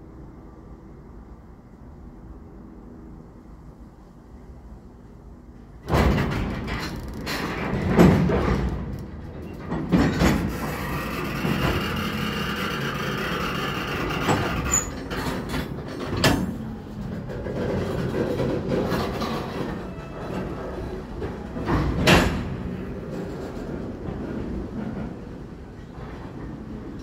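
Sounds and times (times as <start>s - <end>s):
freight train rumbling and rattling: 0.0s - 27.0s.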